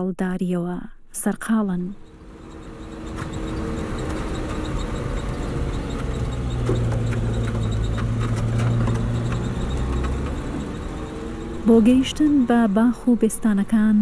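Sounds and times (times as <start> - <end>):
pickup truck engine running: 2.0 - 14.0.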